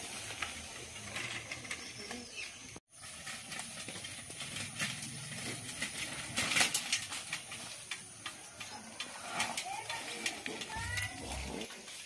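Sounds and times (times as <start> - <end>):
bicycle clattering on dirt lane: 0.0 - 12.0.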